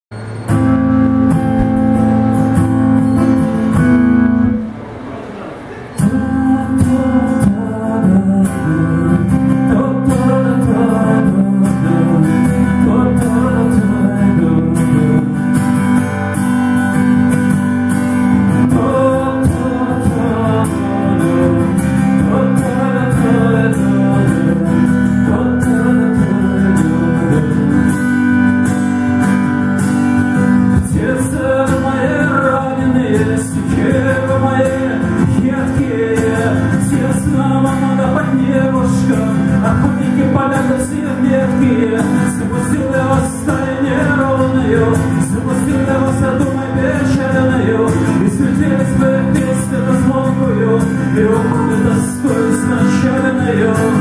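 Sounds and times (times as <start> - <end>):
strummed acoustic guitar: 0.1 - 54.0
man singing: 6.0 - 15.7, 18.2 - 28.7, 30.5 - 54.0.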